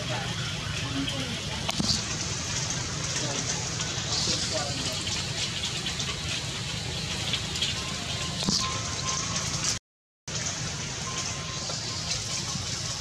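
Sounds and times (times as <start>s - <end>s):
rain falling on stones: 0.0s - 13.0s.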